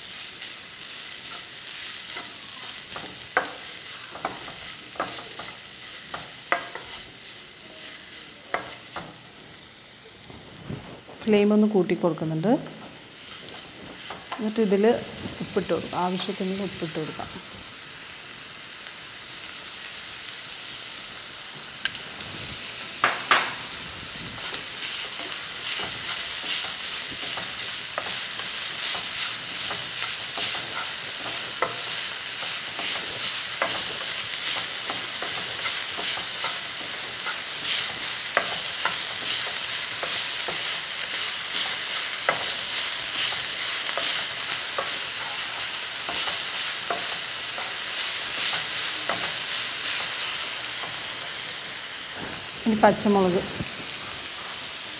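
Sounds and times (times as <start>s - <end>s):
onions sizzling in oil: 0.0s - 54.9s.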